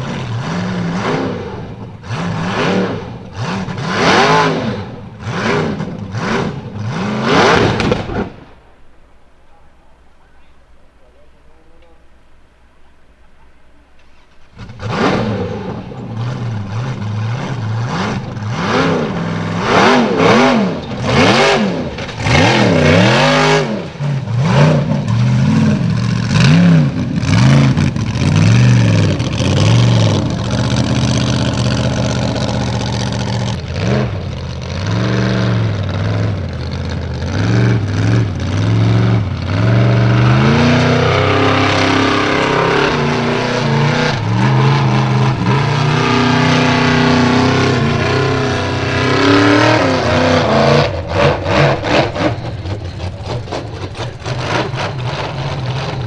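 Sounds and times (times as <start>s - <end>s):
buggy engines revving hard: 0.0s - 8.4s, 14.4s - 56.0s.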